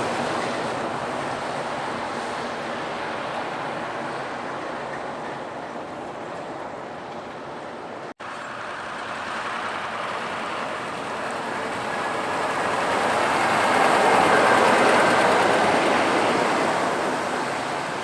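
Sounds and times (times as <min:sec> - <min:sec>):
truck traffic road noise: 0:00.0 - 0:18.0.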